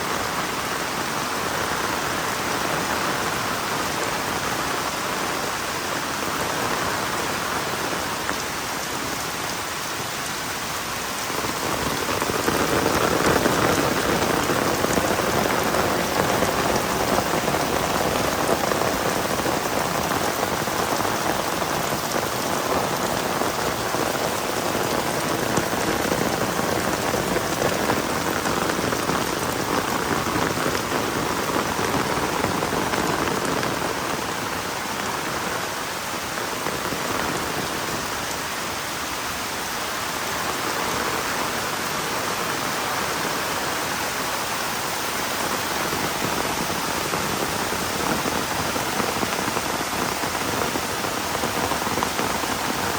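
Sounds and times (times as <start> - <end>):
heavy rain hissing: 0.0 - 52.9.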